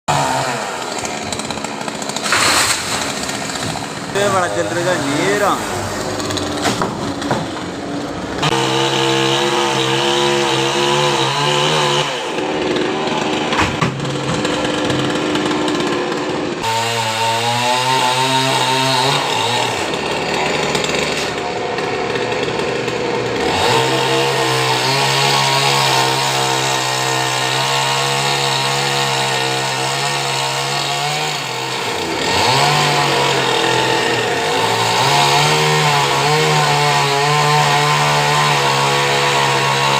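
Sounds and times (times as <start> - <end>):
chainsaw cutting wood: 0.1 - 39.9.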